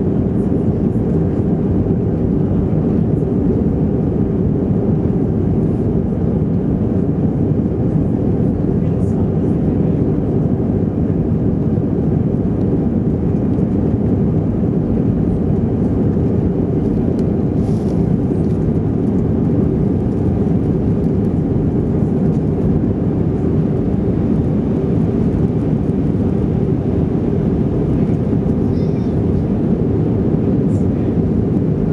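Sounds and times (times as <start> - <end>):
jet engine drone in cabin: 0.0 - 31.9.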